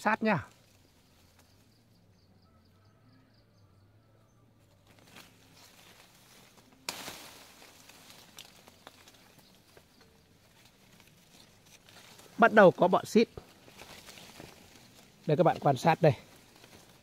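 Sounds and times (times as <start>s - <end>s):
leaves rustling against camera: 0.0s - 2.0s, 4.6s - 17.0s.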